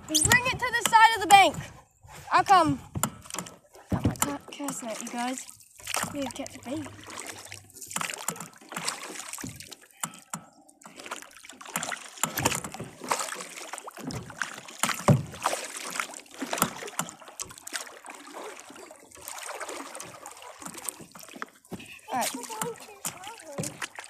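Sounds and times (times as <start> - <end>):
paddle knocking against hull: 0.0 - 1.8, 2.5 - 5.2, 5.8 - 24.0
paddle strokes splashing water: 0.0 - 24.0.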